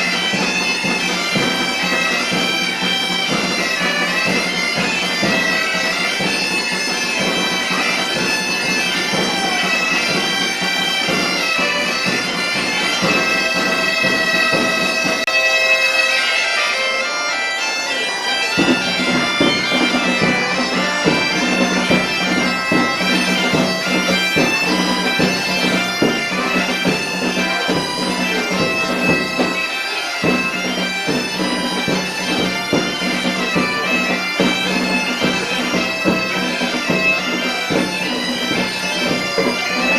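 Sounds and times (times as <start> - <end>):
drum beating: 0.0 - 15.6, 18.1 - 39.9
bagpipe drone: 0.0 - 39.9
bagpipe playing a tune: 0.0 - 39.9.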